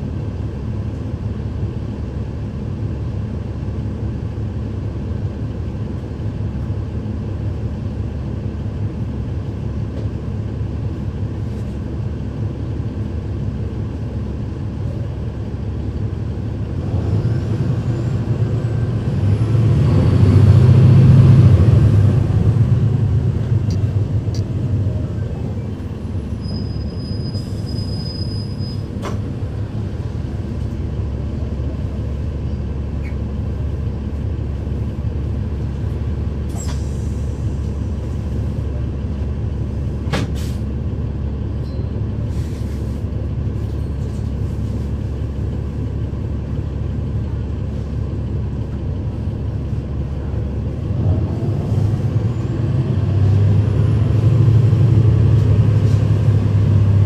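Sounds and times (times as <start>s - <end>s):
bus diesel engine rumbling: 0.0s - 57.0s
road noise: 0.0s - 57.0s.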